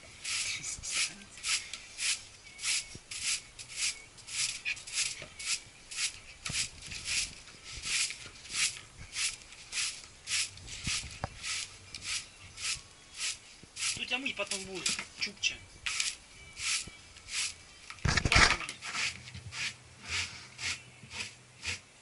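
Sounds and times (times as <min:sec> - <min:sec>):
regular scraping strokes: 0:00.0 - 0:15.1, 0:15.8 - 0:21.9.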